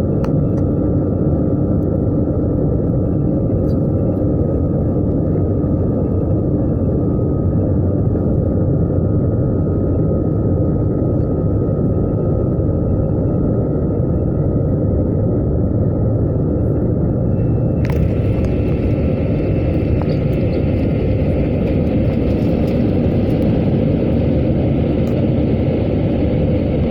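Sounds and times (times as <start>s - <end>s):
aircraft engine and airflow rumble: 0.0s - 26.9s.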